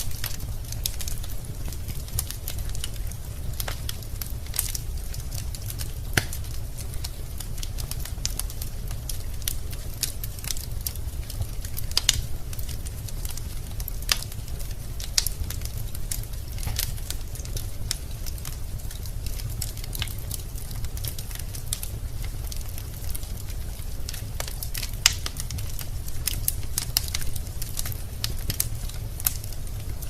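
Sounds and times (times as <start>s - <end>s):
logs crackling and popping: 0.0s - 30.0s
low fire rumble: 0.0s - 30.0s.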